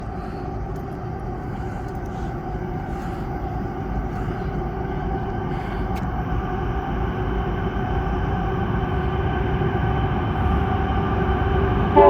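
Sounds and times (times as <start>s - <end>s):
diesel locomotive low rumble: 0.0s - 12.0s.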